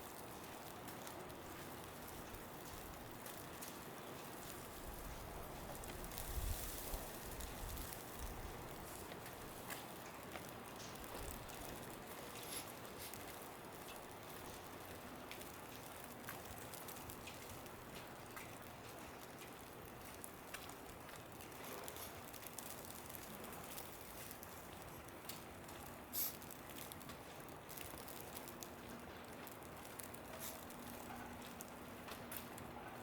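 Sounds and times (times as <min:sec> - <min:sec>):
soft hiss of falling snow: 0:00.0 - 0:32.7
faint ticks: 0:05.8 - 0:32.6.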